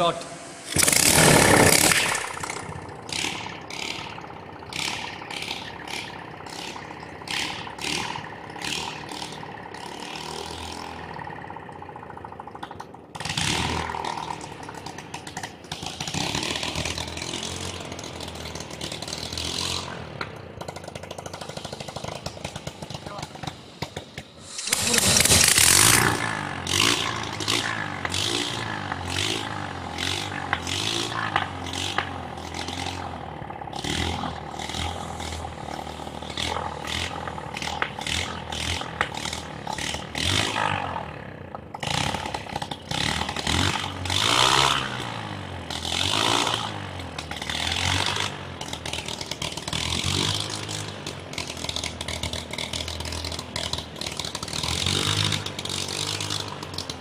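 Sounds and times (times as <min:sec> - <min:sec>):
small petrol engine revving: 0:00.0 - 0:57.0.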